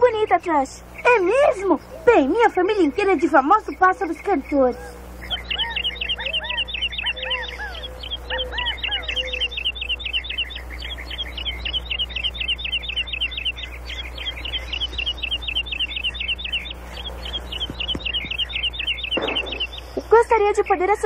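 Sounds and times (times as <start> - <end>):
songbird fast high chirps: 0.0 - 21.0.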